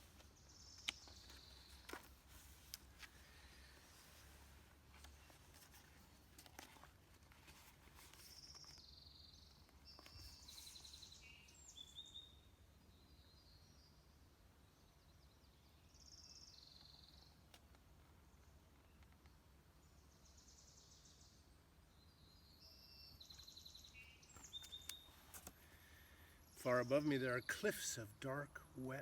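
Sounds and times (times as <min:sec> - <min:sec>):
faint songbird song: 0:00.0 - 0:29.0.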